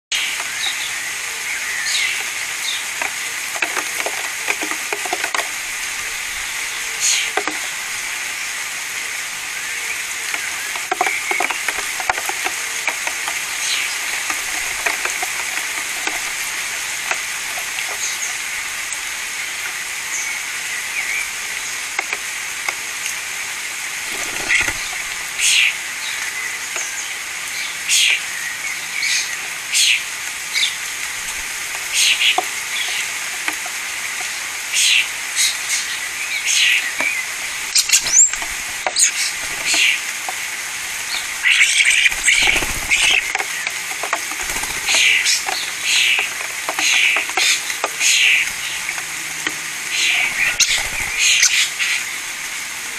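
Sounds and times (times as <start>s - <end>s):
birds clicking and tapping: 0.1s - 8.2s, 10.0s - 23.3s, 23.9s - 27.1s, 30.6s - 52.1s
steady hiss: 0.1s - 52.9s.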